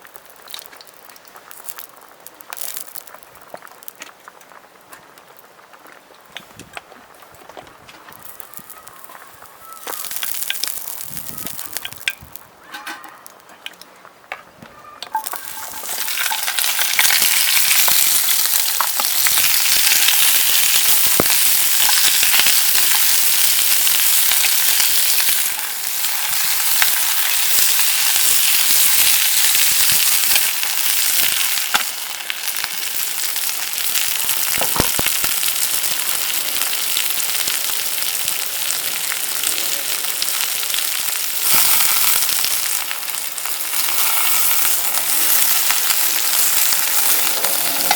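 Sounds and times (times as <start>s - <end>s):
food sizzling in hot oil: 0.0s - 4.0s, 8.1s - 12.4s, 15.1s - 47.9s.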